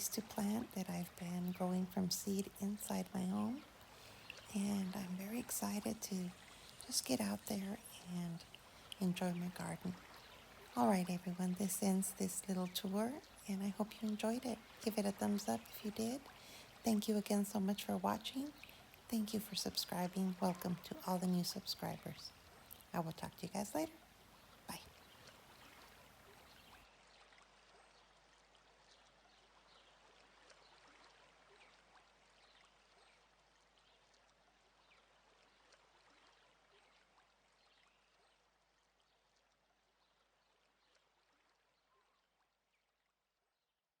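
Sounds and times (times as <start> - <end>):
small drips: 0.0 - 42.8
trickling water: 0.0 - 43.4.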